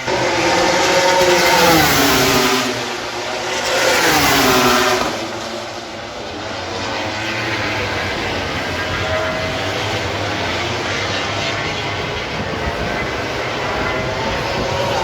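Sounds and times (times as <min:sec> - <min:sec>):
race motorcycles passing at speed: 0:00.0 - 0:15.0.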